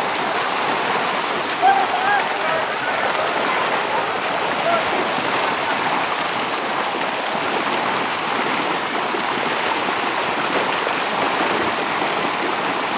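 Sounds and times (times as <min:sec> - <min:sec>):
fish splashing in shallow water: 0:00.0 - 0:12.9
people wading through water: 0:00.0 - 0:12.9.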